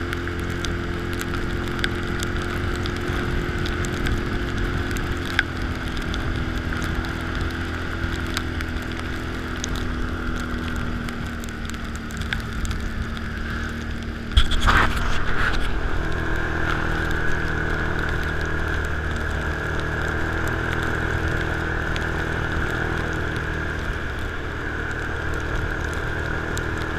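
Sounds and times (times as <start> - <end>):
atv engine running: 0.0 - 26.9.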